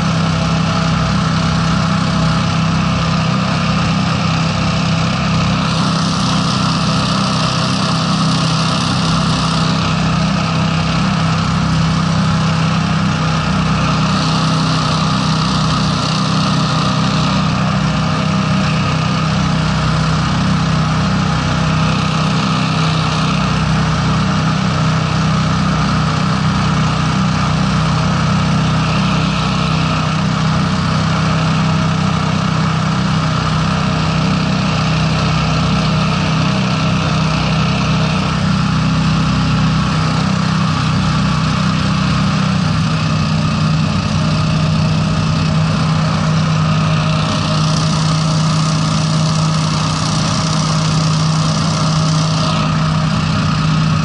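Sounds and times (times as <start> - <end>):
hovercraft engine running: 0.0 - 54.0.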